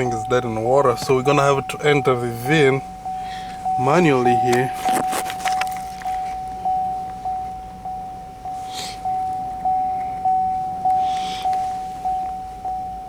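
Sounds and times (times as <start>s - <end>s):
faint rustling: 0.0s - 13.0s
vehicle warning chime dinging: 0.0s - 13.0s.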